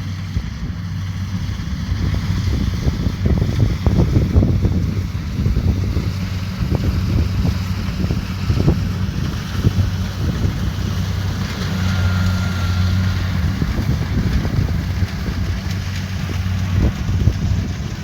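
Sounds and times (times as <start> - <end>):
combine harvester diesel engine: 0.0 - 18.0
wind buffeting microphone: 0.1 - 18.0.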